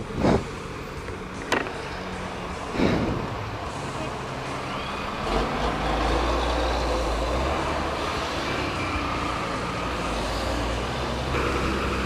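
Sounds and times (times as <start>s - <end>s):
traffic and road noise hiss: 0.0s - 12.0s.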